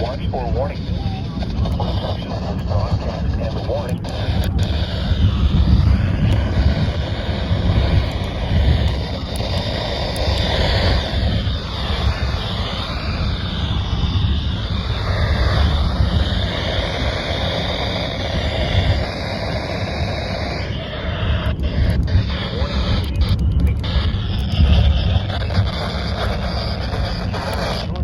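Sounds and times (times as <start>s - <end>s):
radio static: 0.0s - 28.0s.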